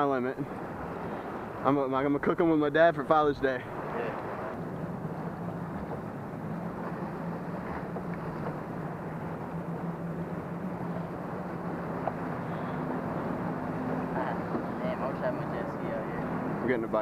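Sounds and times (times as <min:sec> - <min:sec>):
outboard motor running: 0:00.0 - 0:17.0
water noise: 0:00.0 - 0:17.0
wind: 0:00.0 - 0:17.0.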